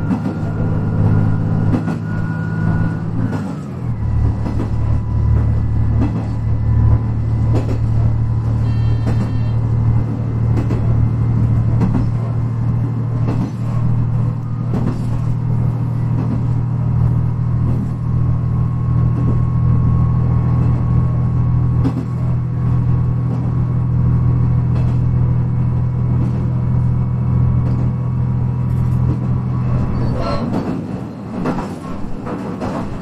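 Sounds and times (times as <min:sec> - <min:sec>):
diesel railcar engine drone: 0:00.0 - 0:33.0
wheels clacking over rail joints: 0:00.0 - 0:33.0.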